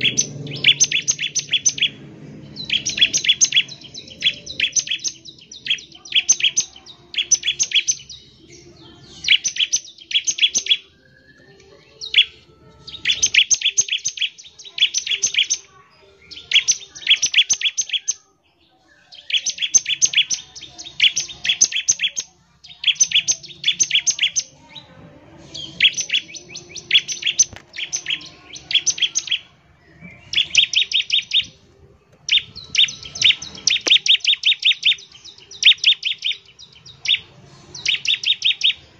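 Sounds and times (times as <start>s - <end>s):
bird singing rapid chatter: 0.0s - 24.8s, 25.5s - 31.6s, 32.2s - 38.9s.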